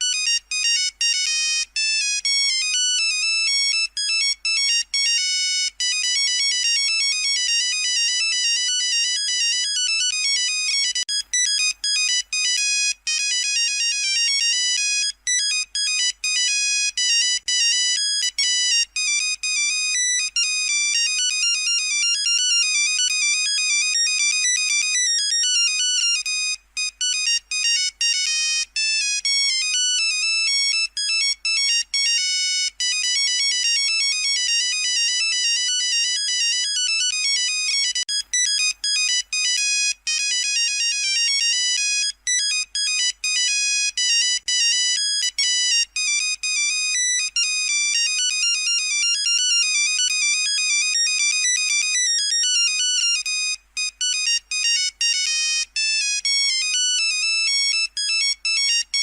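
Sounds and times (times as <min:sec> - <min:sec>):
monophonic ringtone beeping melody: 0:00.0 - 0:59.0.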